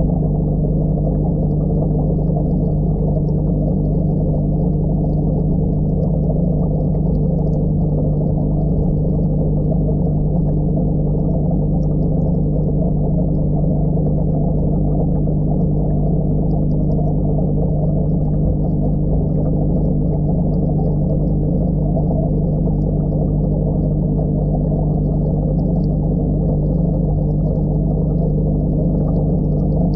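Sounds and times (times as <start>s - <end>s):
bubbles rushing underwater: 0.0s - 29.9s.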